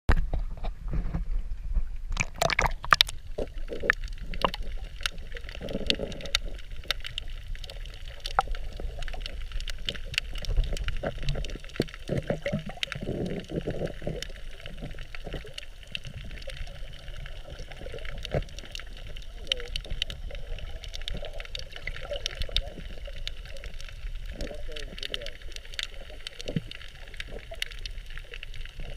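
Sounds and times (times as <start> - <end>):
muffled underwater sloshing: 0.1 - 28.9.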